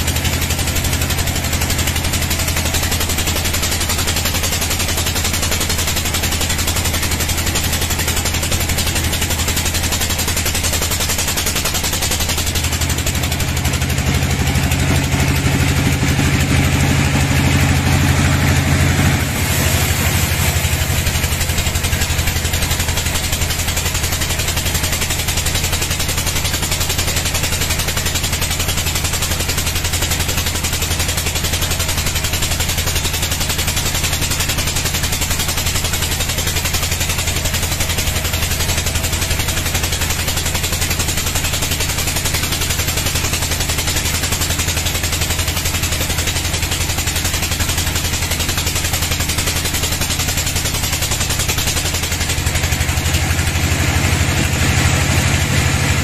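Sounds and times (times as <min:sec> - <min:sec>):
band sawmill droning: 0:00.0 - 0:56.0.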